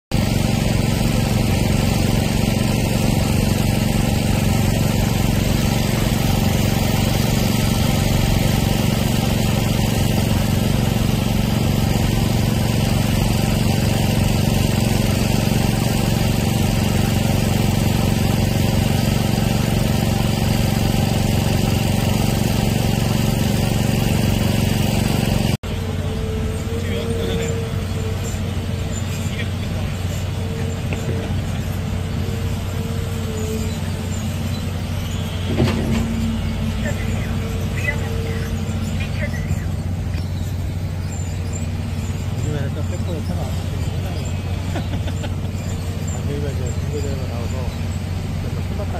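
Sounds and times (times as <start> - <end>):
engine droning: 0.1 - 48.9.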